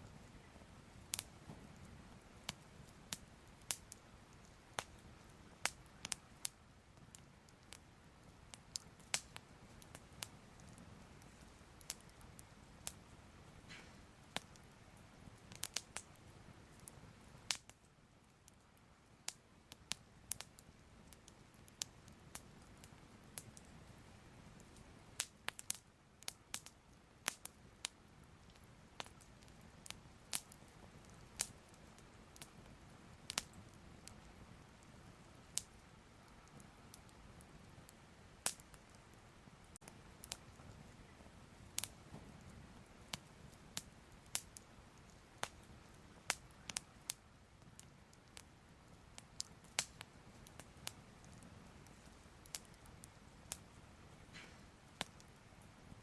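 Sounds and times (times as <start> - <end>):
fire crackling: 0.0 - 56.0.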